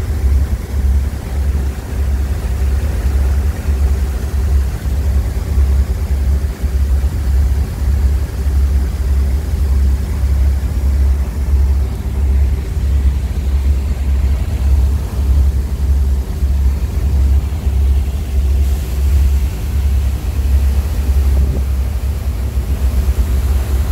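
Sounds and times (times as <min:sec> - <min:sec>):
diesel engine throbbing: 0:00.0 - 0:23.9
machinery hum: 0:00.0 - 0:23.9.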